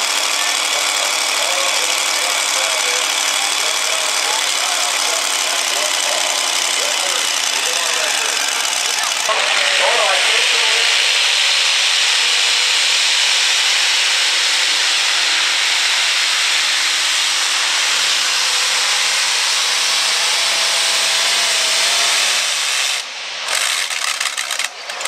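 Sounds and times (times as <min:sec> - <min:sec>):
pulling tractor engine roaring: 0:00.0 - 0:25.0.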